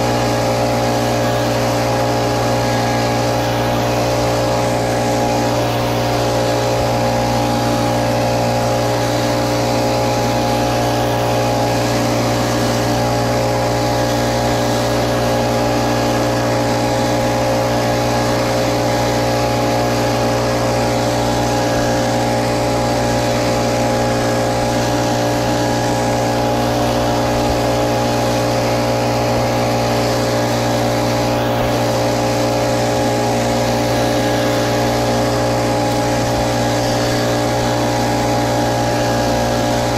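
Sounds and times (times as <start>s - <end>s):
blower fan rushing air: 0.0s - 39.9s
leaf blower engine drone: 0.0s - 39.9s.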